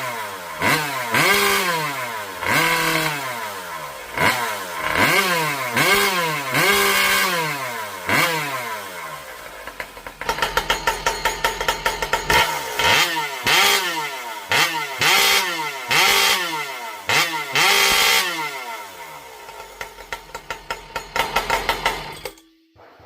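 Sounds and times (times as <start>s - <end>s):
chainsaw engine revving: 0.0s - 22.4s.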